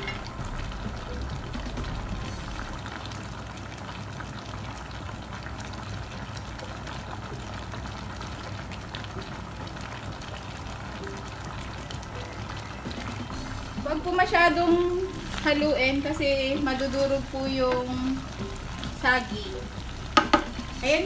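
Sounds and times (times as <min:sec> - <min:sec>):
sauce bubbling and popping: 0:00.0 - 0:21.0.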